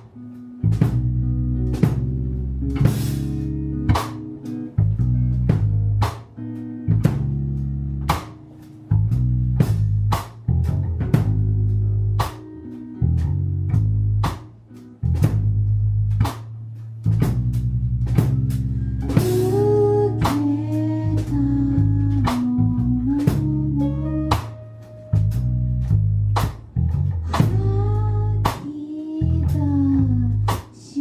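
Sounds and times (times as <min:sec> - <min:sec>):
band music: 0:00.0 - 0:31.0.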